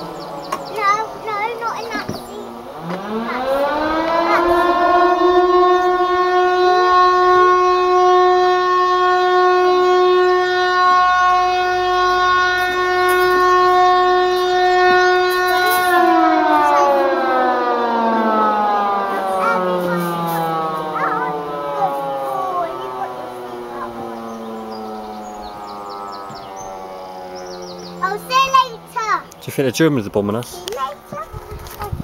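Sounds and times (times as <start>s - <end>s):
air-raid siren wailing: 0.0s - 32.0s.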